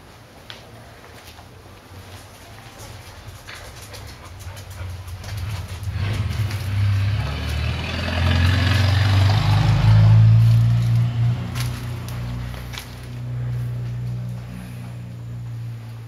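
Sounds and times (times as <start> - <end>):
vehicle engine humming: 2.4 - 16.0.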